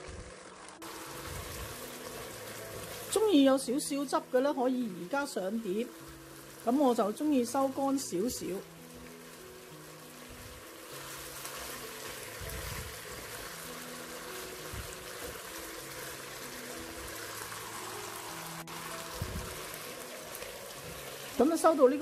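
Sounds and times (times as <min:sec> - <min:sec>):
sauce bubbling and sizzling: 0:00.0 - 0:22.0
soft background music: 0:00.0 - 0:22.0.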